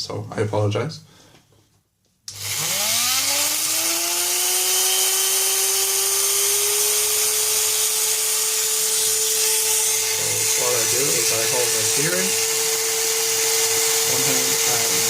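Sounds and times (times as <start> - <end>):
electric drill whining: 2.3 - 15.0.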